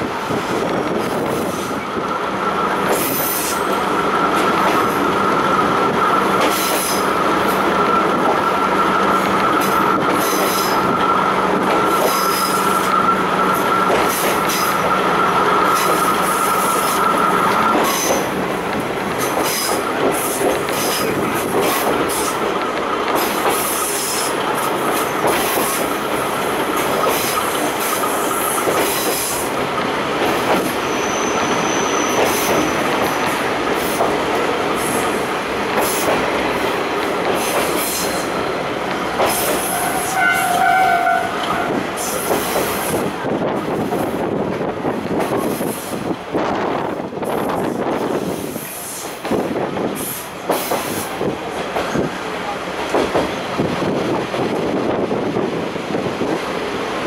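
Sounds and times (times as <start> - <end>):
train engine and wheel noise: 0.0 - 57.0.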